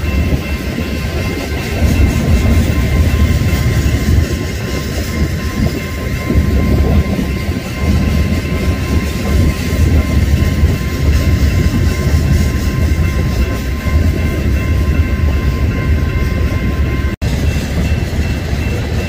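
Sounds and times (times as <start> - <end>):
steel train wheels rumbling on rail: 0.0 - 19.0.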